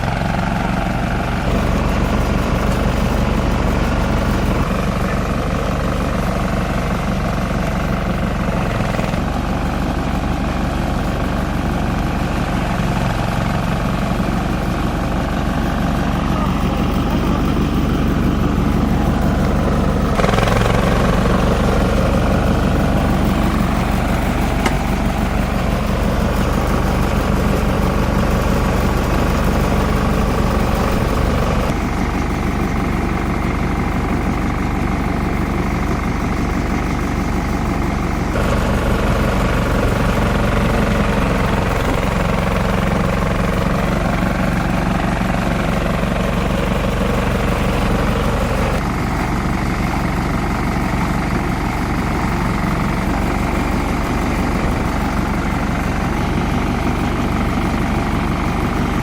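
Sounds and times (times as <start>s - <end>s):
chopper motor drone: 0.0s - 59.0s.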